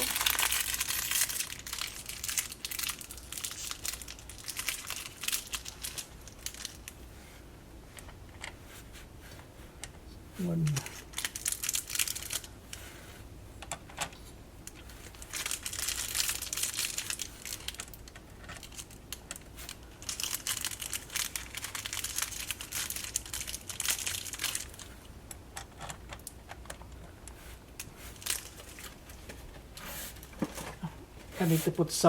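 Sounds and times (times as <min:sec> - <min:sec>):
plastic packaging crinkling: 0:00.0 - 0:07.0, 0:10.8 - 0:12.8, 0:14.7 - 0:31.4.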